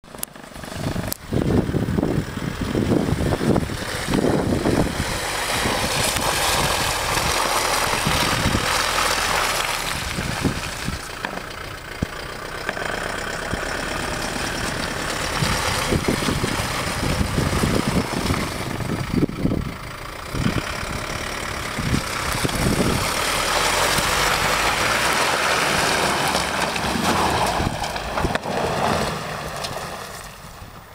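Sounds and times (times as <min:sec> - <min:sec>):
diesel engine revving: 0:00.0 - 0:30.8.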